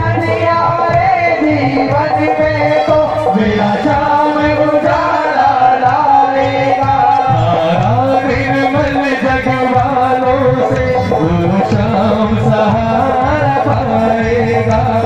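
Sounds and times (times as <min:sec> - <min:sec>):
instrumental accompaniment: 0:00.0 - 0:15.0
steady drum rhythm: 0:00.0 - 0:15.0.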